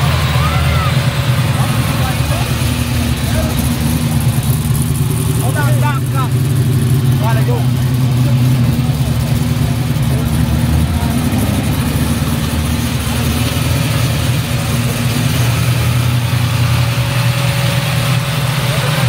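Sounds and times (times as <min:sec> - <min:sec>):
loud car engine idling: 0:00.0 - 0:19.0.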